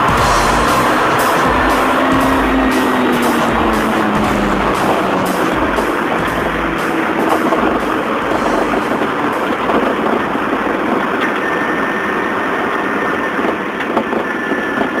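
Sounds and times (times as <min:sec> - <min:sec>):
car engine and road noise: 0:00.0 - 0:12.5.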